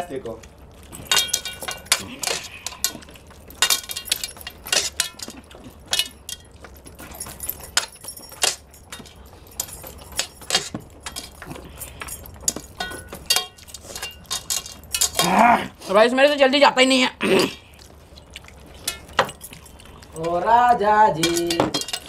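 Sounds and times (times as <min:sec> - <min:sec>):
metal bracelets jangling on plate: 0:00.3 - 0:16.6, 0:17.7 - 0:22.0.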